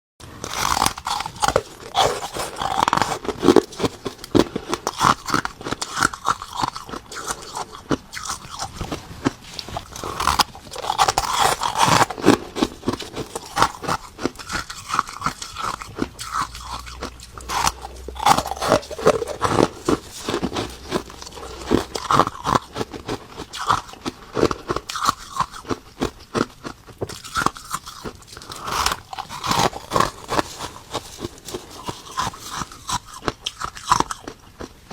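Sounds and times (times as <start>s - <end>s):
ice being chewed crunching: 0.2s - 34.9s.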